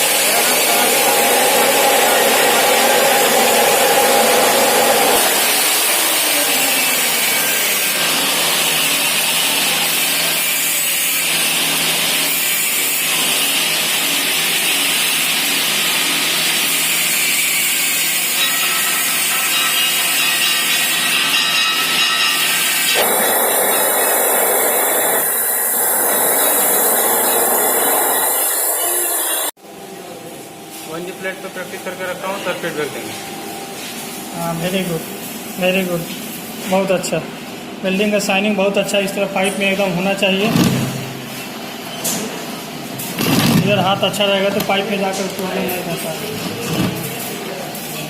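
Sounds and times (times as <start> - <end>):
metalworking noise: 0.0 - 48.0.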